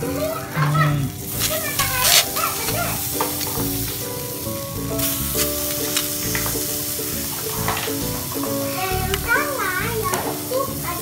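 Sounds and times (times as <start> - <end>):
seafood sizzling on grill: 0.0 - 11.0
skewers clicking on grill: 1.1 - 11.0.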